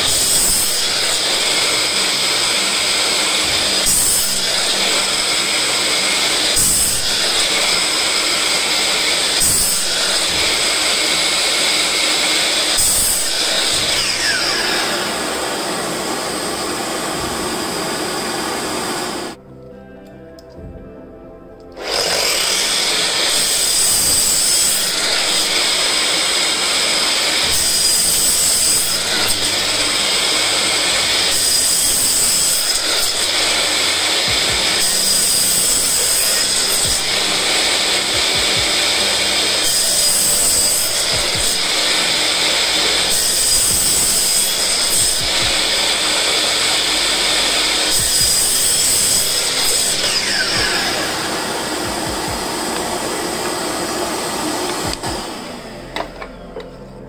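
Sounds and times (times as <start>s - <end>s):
miter saw cutting wood: 0.0s - 19.4s, 21.8s - 56.3s.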